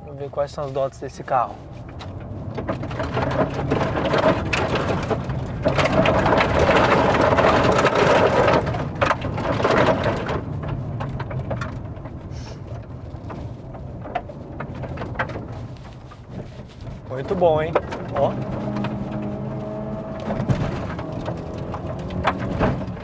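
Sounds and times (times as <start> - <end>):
car engine hum: 0.0 - 23.0
gravel rattling against underbody: 0.0 - 23.0
tyres crunching over gravel: 0.0 - 23.0.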